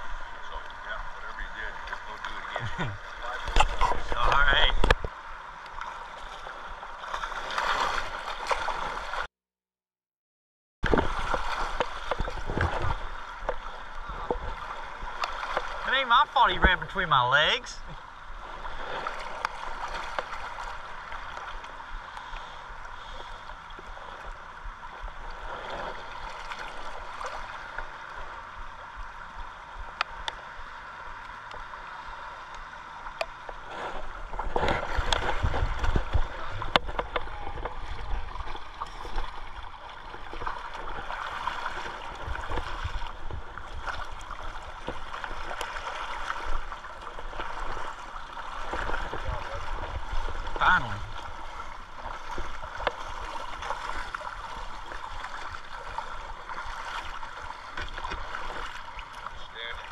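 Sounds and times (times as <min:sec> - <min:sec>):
river current rushing and gurgling: 0:00.0 - 0:09.3, 0:10.8 - 0:59.9
water splashing: 0:00.0 - 0:09.3, 0:10.8 - 0:59.9.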